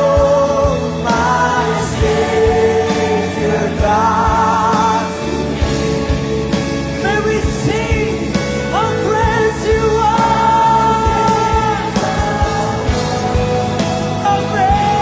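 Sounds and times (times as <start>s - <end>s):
steady drum beat: 0.0s - 15.0s
worship band music: 0.0s - 15.0s.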